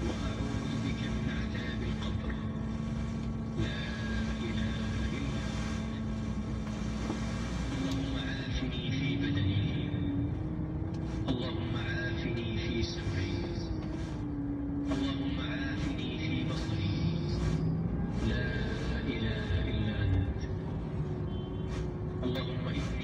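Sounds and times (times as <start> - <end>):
road noise: 0.0 - 23.0
vehicle engine: 0.0 - 23.0.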